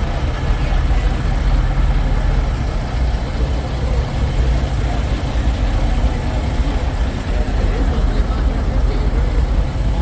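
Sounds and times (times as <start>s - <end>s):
diesel truck engines idling: 0.0s - 10.0s.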